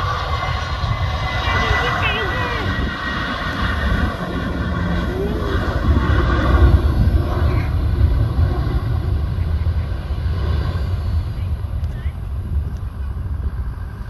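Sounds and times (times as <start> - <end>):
jet engine high whine: 0.0 - 14.0
jet engines rumbling: 0.0 - 14.0.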